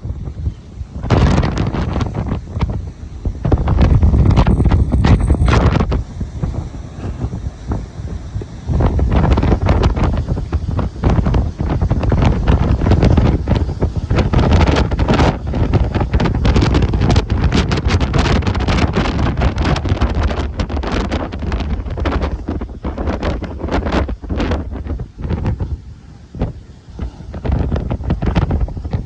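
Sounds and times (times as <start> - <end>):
rough sea rumble: 0.0 - 29.0
wind buffeting microphone: 0.0 - 29.0.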